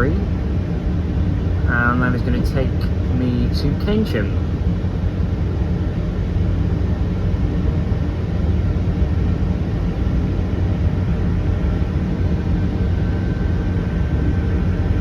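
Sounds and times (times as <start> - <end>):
diesel train rumbling: 0.0 - 15.0.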